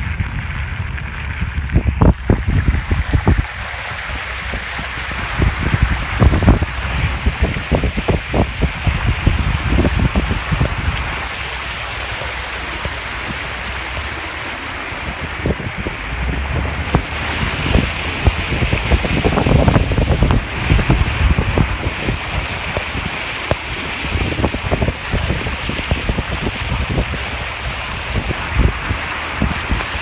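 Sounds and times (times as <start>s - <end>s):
water sloshing and splashing: 0.0s - 30.0s
wind on microphone: 0.0s - 30.0s.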